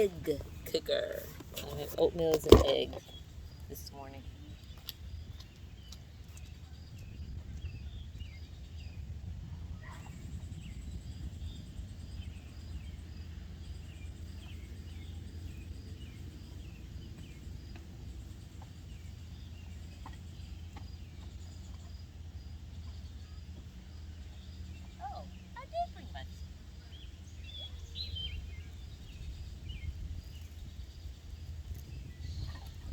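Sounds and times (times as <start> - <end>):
birds chirping: 0.0 - 9.1, 9.8 - 32.9.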